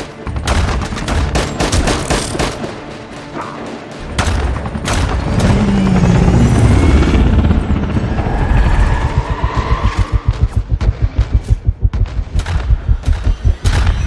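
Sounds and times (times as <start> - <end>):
film score: 0.0 - 14.0
helicopter rumble: 0.0 - 14.0.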